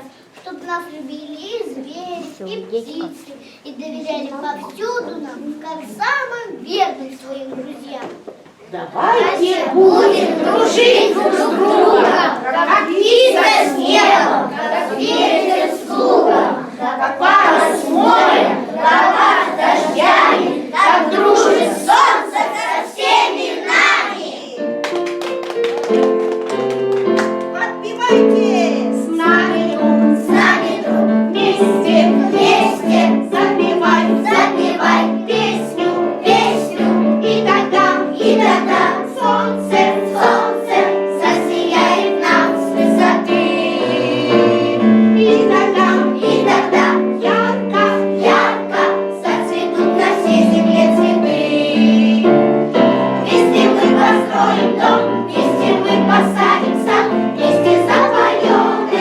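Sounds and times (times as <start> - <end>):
children's choir singing: 9.0 - 59.0.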